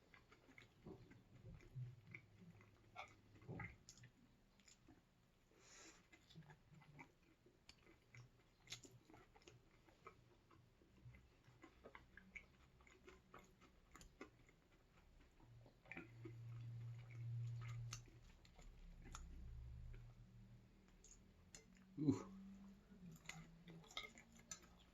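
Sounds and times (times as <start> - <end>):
person chewing food: 0.0 - 24.9.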